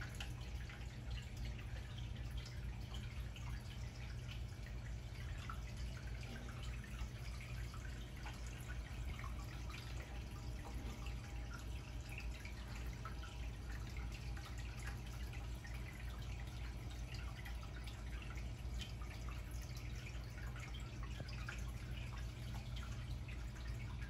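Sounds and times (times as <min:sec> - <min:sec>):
aquarium water bubbling: 0:00.0 - 0:24.0.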